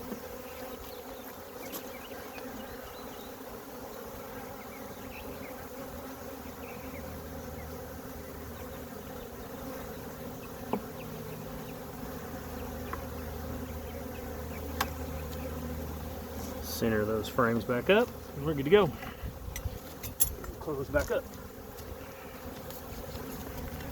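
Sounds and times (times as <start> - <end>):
honey bees buzzing: 0.0 - 23.9.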